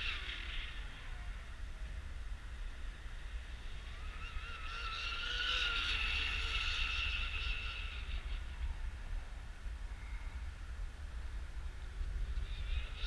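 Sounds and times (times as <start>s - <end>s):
model boat high-pitched whine: 0.0s - 13.0s
wind rumble on microphone: 0.0s - 13.0s.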